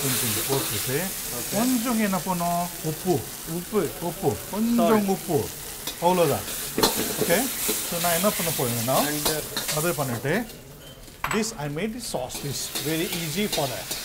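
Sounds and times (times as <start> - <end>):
sauce sizzling: 0.0 - 14.0.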